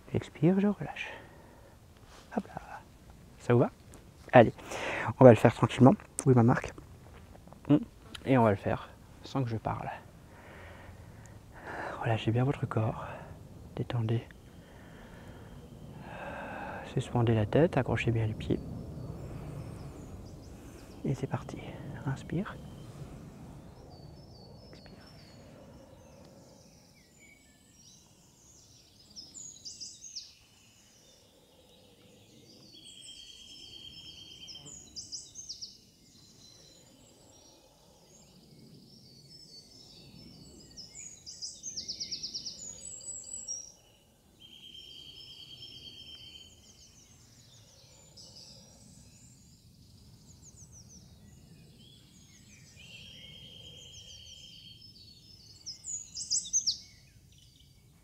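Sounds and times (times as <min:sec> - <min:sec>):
faint outdoor background noise: 0:00.0 - 0:58.0
birds singing and chirping: 0:07.6 - 0:58.0.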